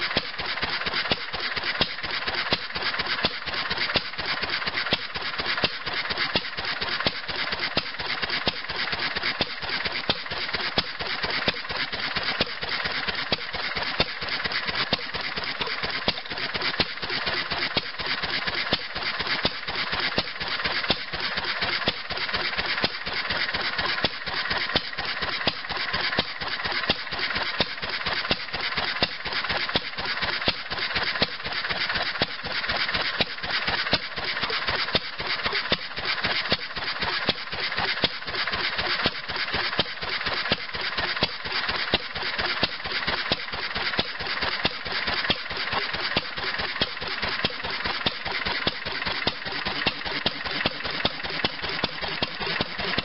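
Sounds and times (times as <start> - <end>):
single-cylinder engine running: 0.0 - 53.0.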